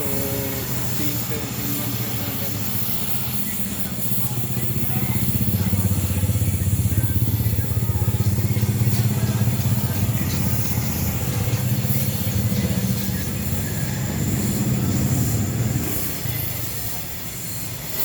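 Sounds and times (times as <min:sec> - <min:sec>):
motor running with pulsing hum: 0:00.0 - 0:18.0.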